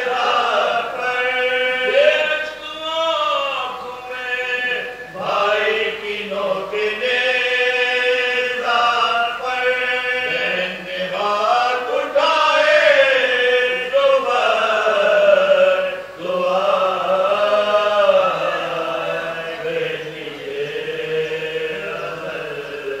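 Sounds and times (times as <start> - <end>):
men chanting in unison: 0.0 - 23.0.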